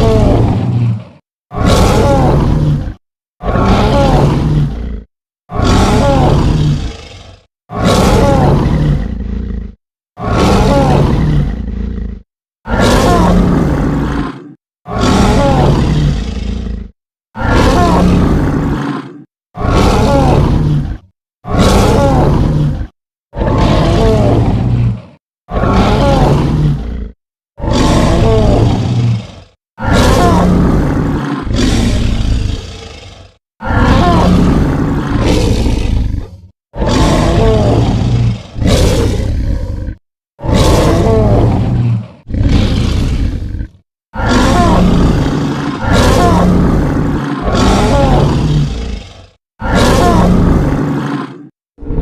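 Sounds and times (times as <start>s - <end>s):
monster roar: 0.0s - 52.0s.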